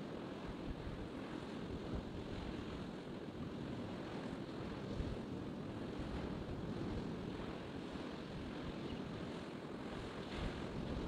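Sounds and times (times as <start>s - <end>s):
wind buffeting the microphone: 0.1s - 11.0s.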